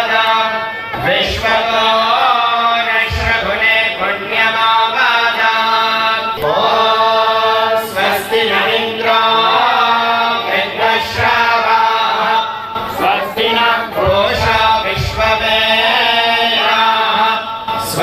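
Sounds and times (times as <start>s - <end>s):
group devotional chanting: 0.0s - 18.0s.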